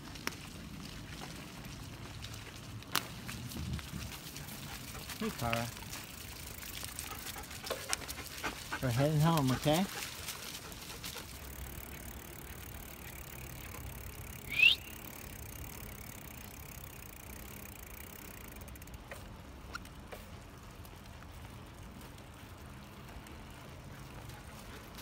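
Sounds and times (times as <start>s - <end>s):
bicycle tyre and wind noise: 0.0s - 25.0s.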